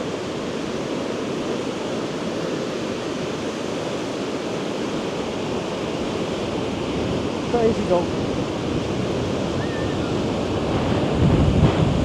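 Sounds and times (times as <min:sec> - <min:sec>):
surf breaking on beach: 0:00.0 - 0:12.0
wind: 0:00.0 - 0:12.0.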